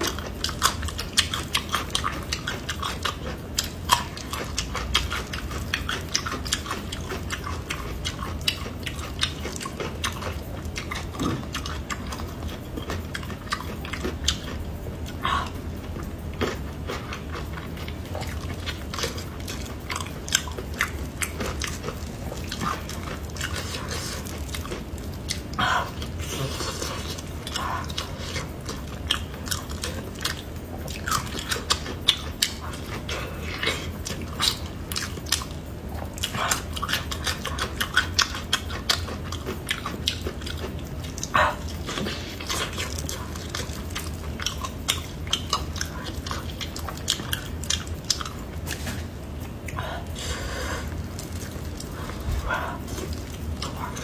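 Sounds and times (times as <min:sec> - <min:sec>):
steady low hum: 0:00.0 - 0:54.0
wet chewing and biting: 0:00.0 - 0:54.0.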